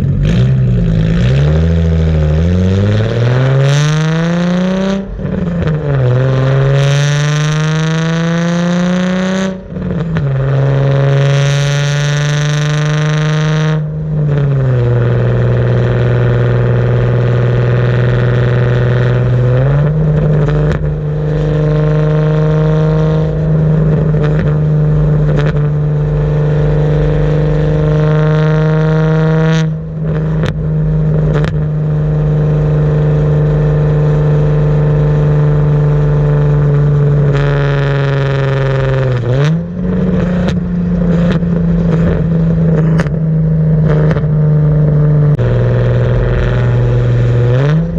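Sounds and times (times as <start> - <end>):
loud car exhaust drone: 0.0 - 47.9.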